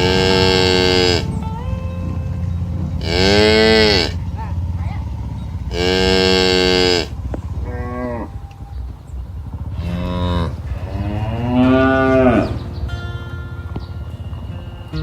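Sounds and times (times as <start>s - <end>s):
cows mooing: 0.0s - 13.0s
low steady rumble: 0.0s - 15.0s.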